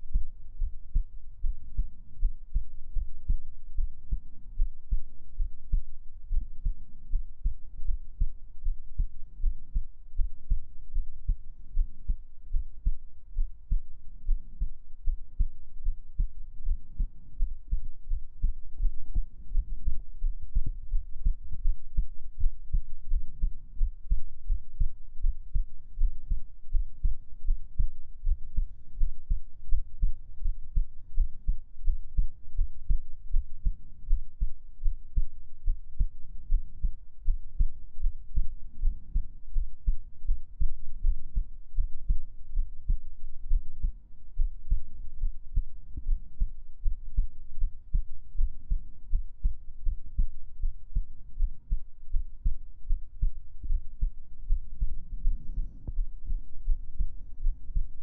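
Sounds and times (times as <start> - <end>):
heartbeat thumps: 0.0 - 58.0.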